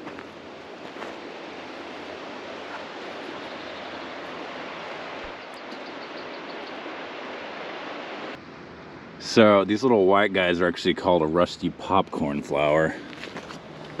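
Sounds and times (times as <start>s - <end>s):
stream water rushing: 0.0s - 11.4s.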